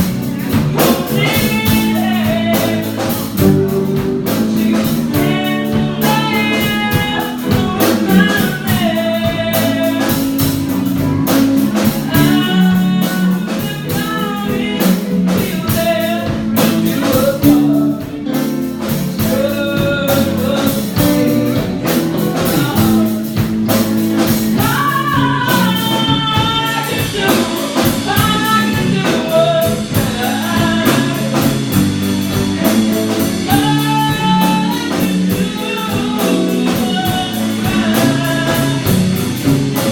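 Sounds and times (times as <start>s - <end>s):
drums: 0.0s - 39.9s
guitar: 0.0s - 39.9s
person singing: 0.0s - 39.9s.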